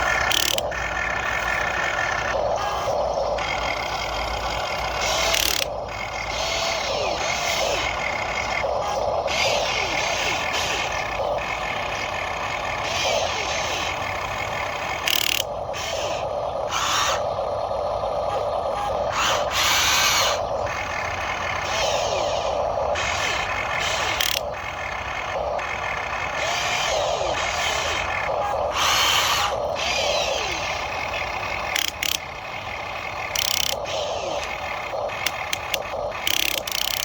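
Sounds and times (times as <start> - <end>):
small electric motors whirring: 0.0 - 37.0.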